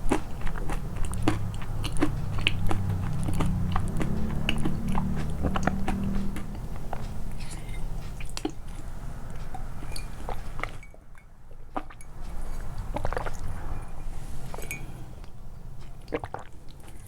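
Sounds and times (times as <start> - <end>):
wet chewing: 0.0 - 10.9, 11.5 - 13.8, 14.4 - 17.0.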